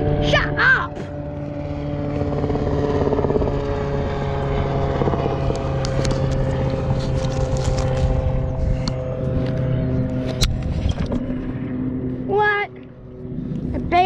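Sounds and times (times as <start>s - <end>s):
steady engine drone: 0.0s - 14.0s.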